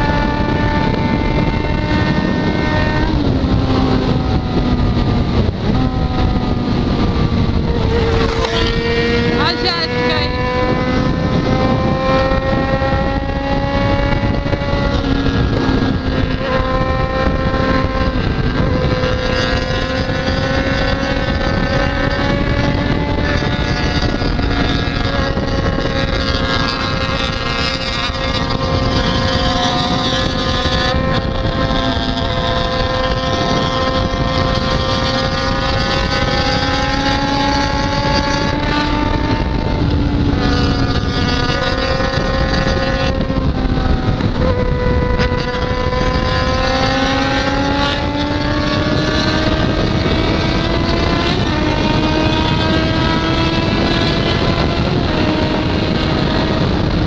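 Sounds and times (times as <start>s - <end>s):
motorcycle engine accelerating: 0.0s - 57.0s
wind rushing: 0.0s - 57.0s.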